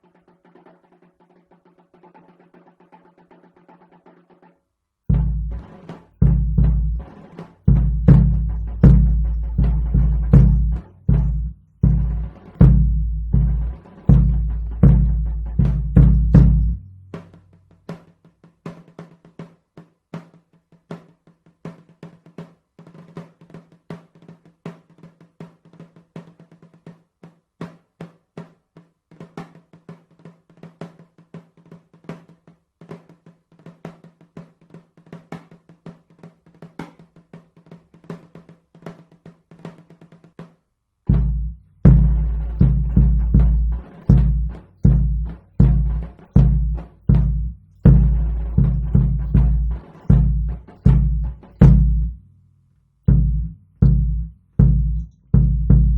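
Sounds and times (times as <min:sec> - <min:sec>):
drums playing: 0:00.0 - 0:19.5, 0:28.4 - 0:52.3, 0:53.1 - 0:55.9.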